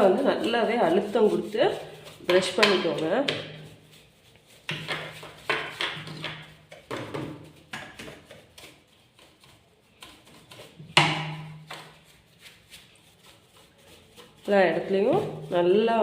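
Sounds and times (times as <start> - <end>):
brush scraping metal: 0.0 - 16.0.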